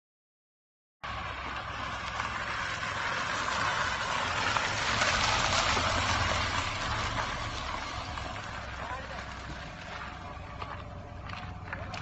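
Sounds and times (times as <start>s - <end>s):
car engine rumble: 1.0s - 12.0s
tyres on gravel: 1.0s - 12.0s.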